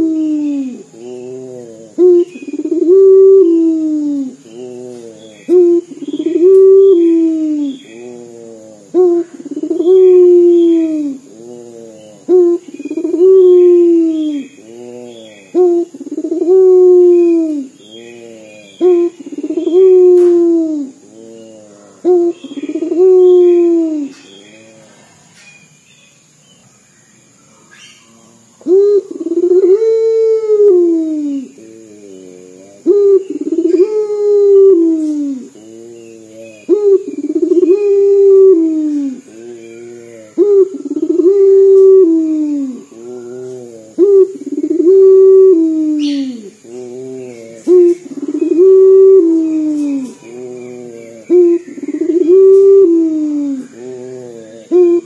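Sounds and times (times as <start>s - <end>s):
dove cooing: 0.0s - 25.2s, 27.8s - 55.0s.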